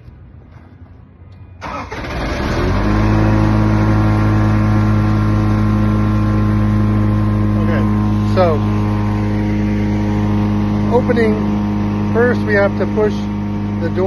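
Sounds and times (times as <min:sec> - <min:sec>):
engine cranking and running: 0:01.6 - 0:14.0.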